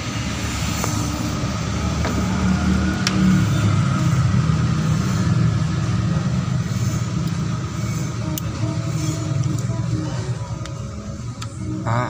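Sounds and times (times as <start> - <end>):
car engine idling with misfire: 0.0 - 11.8.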